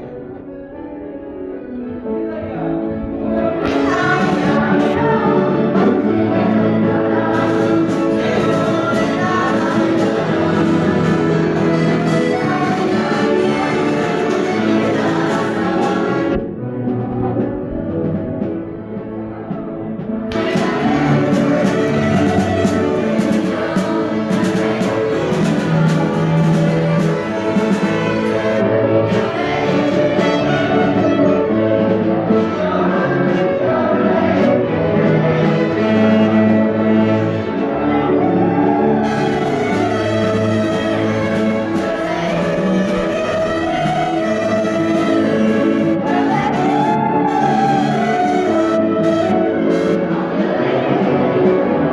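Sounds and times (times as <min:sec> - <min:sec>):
instrumental accompaniment: 0:00.0 - 0:51.9
choir singing yodel song: 0:03.1 - 0:17.4, 0:19.0 - 0:51.9.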